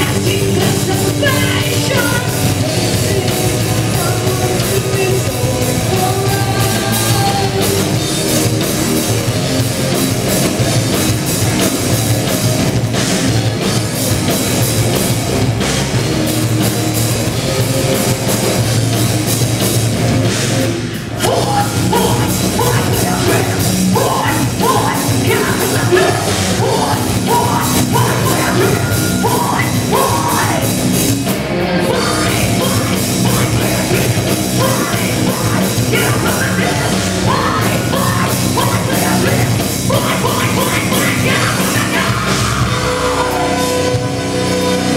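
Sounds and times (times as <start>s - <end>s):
metal band playing live: 0.0s - 44.9s.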